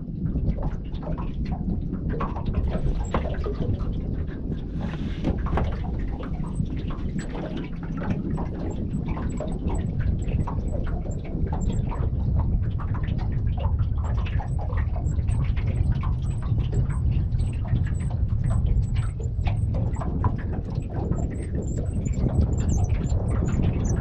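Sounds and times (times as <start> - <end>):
wind rumbling on microphone: 0.0 - 24.0
water slapping against metal hull: 0.5 - 24.0.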